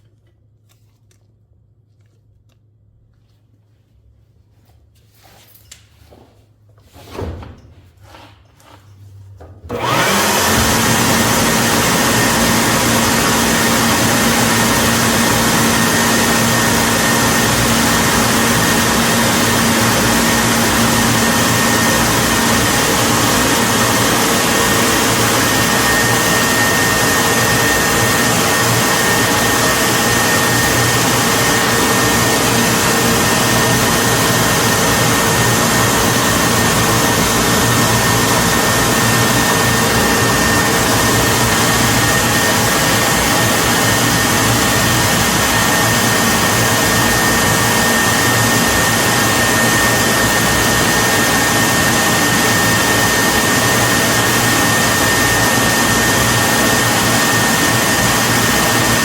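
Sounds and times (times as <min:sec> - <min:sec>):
electric motor with rushing air: 0:09.7 - 0:59.0.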